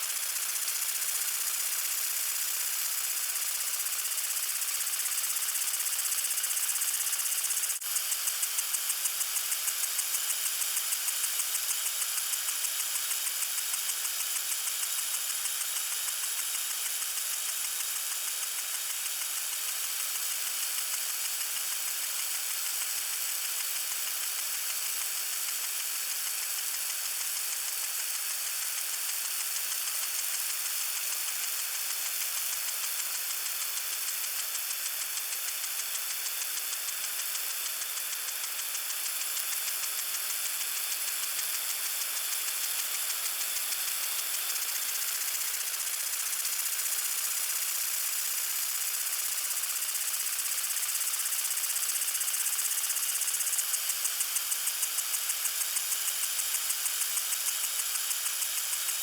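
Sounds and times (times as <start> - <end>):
lawn sprinkler spraying water: 0.0 - 59.0.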